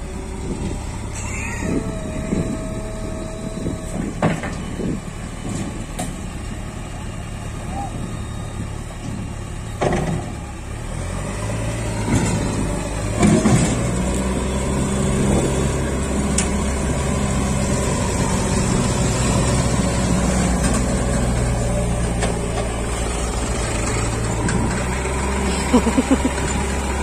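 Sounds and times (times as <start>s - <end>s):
diesel engines working under load: 0.0s - 27.0s.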